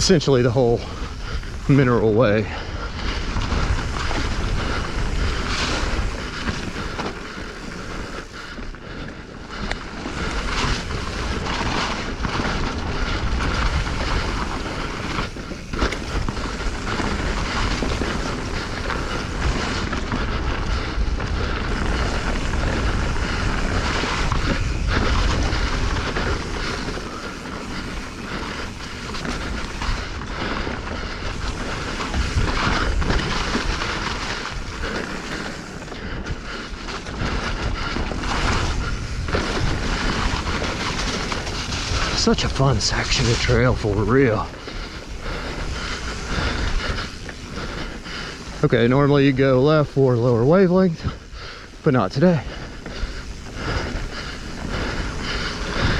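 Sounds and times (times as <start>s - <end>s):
bike chain and frame rattling: 0.0s - 55.9s
bike tyres rushing on dirt: 0.0s - 55.9s
wind buffeting microphone: 0.0s - 55.9s.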